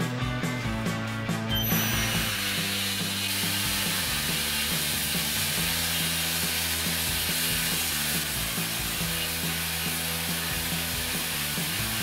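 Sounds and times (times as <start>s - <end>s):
background music: 0.0s - 12.0s
belt grinder sanding wood: 1.7s - 12.0s.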